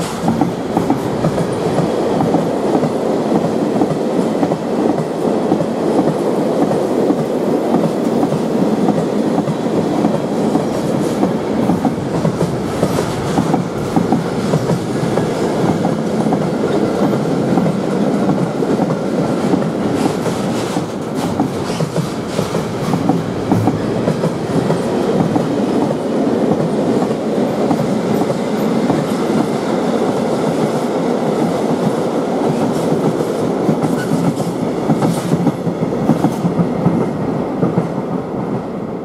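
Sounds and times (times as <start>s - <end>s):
train wheels clattering over rails: 0.0s - 38.2s.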